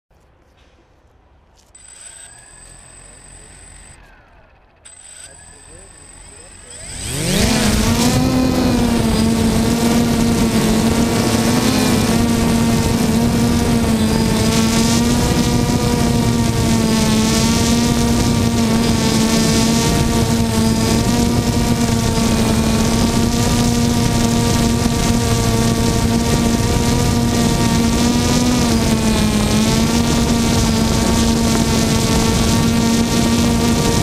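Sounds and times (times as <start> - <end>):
drone propellers buzzing: 1.7 - 34.0.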